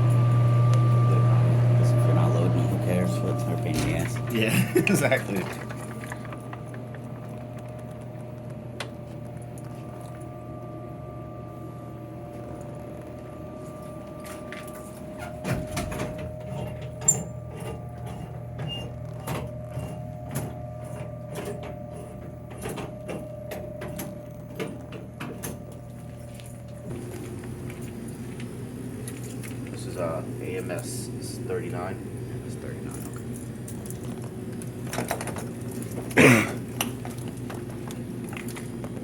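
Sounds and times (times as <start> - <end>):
vending machines humming: 0.0 - 39.0.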